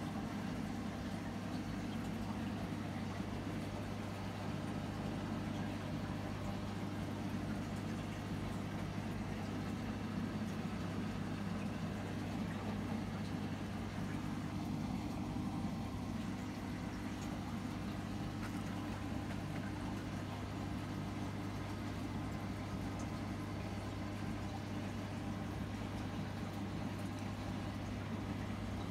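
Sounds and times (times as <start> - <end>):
aquarium pump humming: 0.0 - 28.9.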